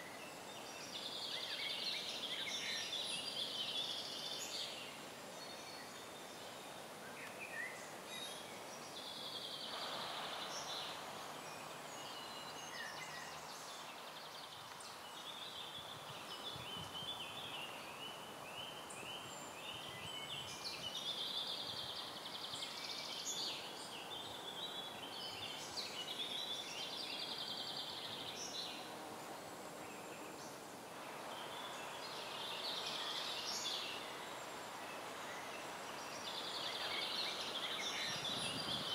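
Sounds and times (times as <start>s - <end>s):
songbirds chirping and trilling: 0.0s - 38.9s
steady outdoor hiss: 0.0s - 38.9s.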